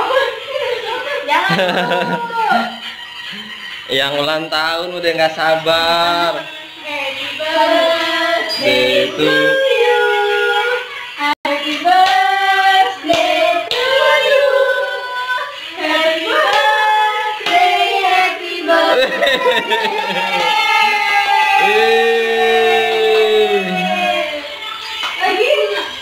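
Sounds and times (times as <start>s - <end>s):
people singing a birthday song: 0.0s - 26.0s.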